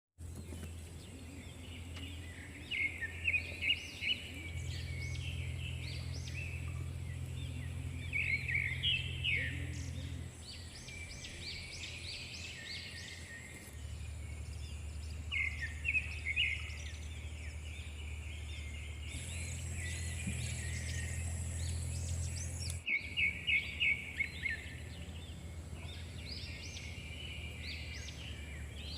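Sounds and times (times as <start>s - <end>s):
faint high-pitched whine: 0.2s - 28.9s
small birds chirping: 0.2s - 28.9s
steady low hum: 0.2s - 28.9s.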